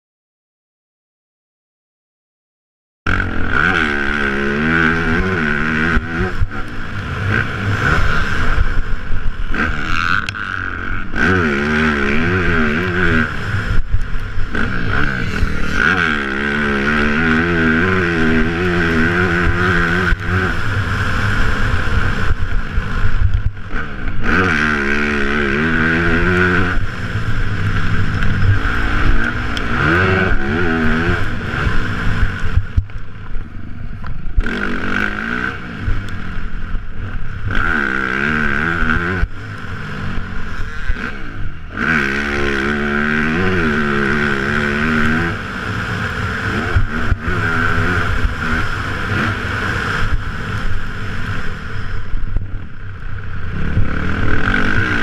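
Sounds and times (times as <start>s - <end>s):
motorbike engine revving: 3.1s - 55.0s
steady rushing noise: 3.1s - 55.0s.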